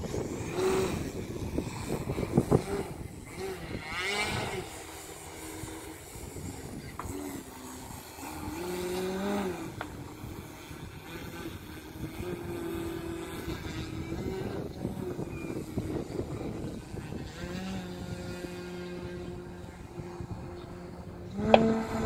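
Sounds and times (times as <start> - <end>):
model plane motor droning: 0.0 - 22.0.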